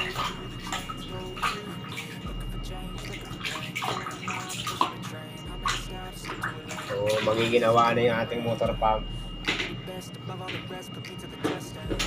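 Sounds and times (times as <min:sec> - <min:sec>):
water sloshing in a plastic bucket: 0:00.0 - 0:09.7.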